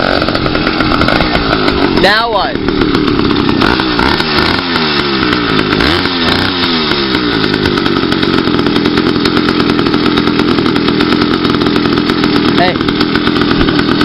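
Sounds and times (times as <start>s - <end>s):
two-stroke engine running loud: 0.0s - 14.0s.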